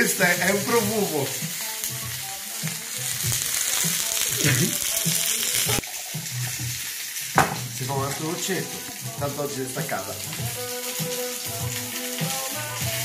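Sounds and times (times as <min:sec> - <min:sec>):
steak sizzling in a frying pan: 0:00.0 - 0:13.0.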